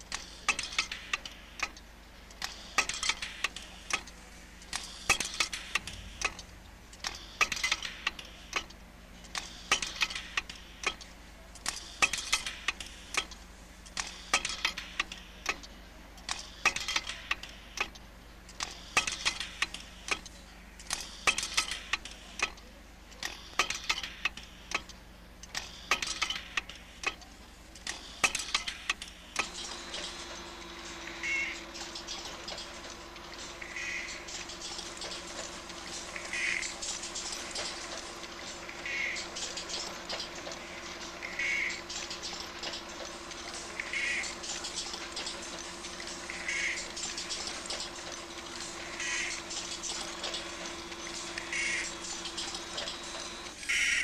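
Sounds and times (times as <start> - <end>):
faint steady hum: 0.0 - 54.0
machinery clicking and clattering: 0.0 - 54.0.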